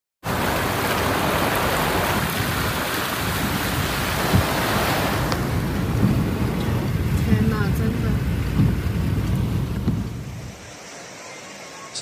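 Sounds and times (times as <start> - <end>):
floodwater rushing and splashing: 0.2 - 12.0.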